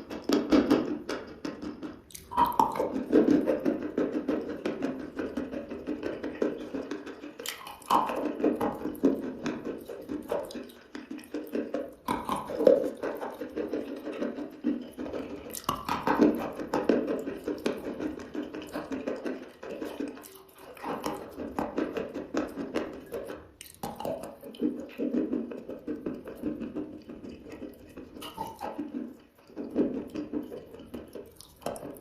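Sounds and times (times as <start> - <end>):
chewing crunchy chalk: 0.1 - 32.0.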